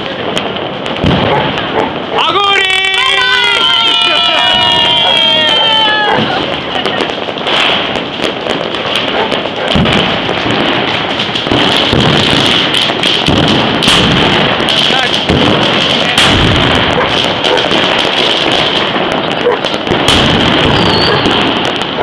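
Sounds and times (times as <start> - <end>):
firecrackers crackling: 0.0 - 22.0
heavy firework booms: 0.0 - 22.0.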